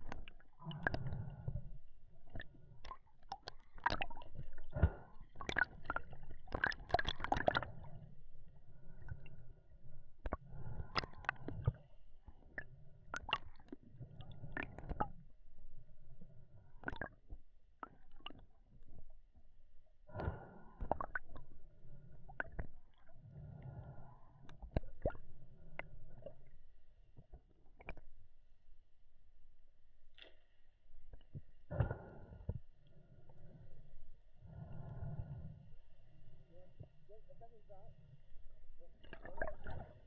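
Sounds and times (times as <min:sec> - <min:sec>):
water sloshing and gurgling: 0:00.0 - 0:40.0.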